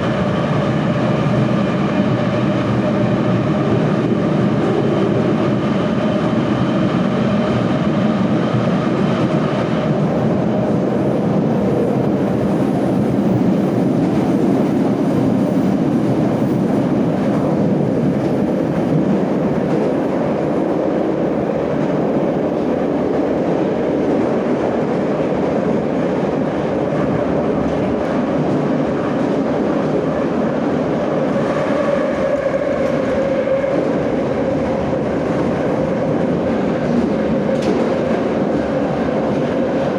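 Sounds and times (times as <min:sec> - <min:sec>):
train wheels rumbling in tunnel: 0:00.0 - 0:39.9.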